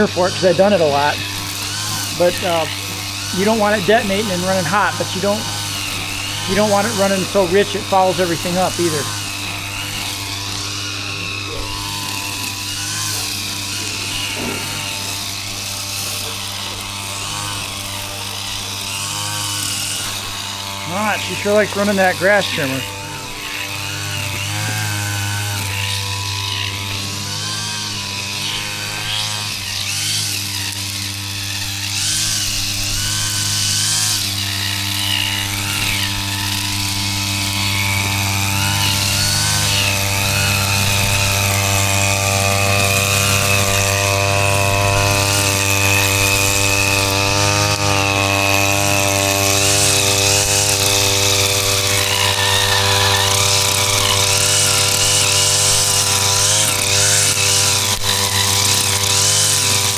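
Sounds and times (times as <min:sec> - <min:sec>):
grass trimmer engine buzzing: 0:00.0 - 0:59.9.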